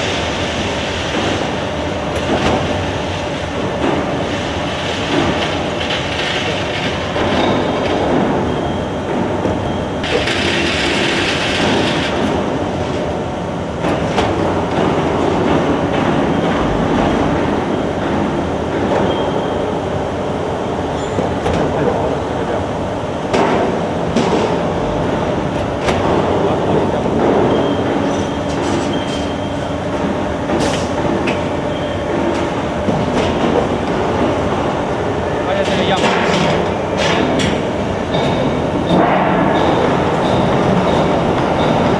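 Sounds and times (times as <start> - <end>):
machinery rumble and hum: 0.0 - 41.9.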